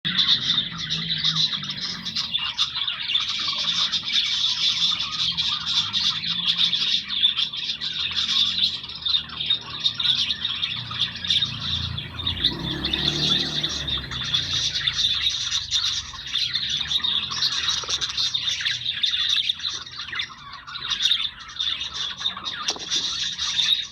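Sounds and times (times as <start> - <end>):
budgerigars chattering and warbling: 0.1 - 23.9.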